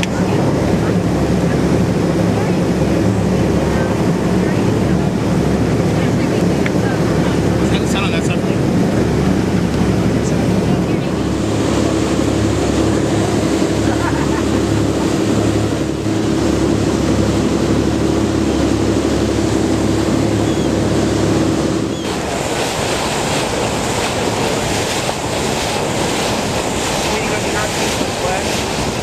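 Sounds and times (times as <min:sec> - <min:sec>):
boat engine running: 0:00.0 - 0:29.0
rushing wake water: 0:00.0 - 0:29.0
wind on microphone: 0:00.0 - 0:29.0.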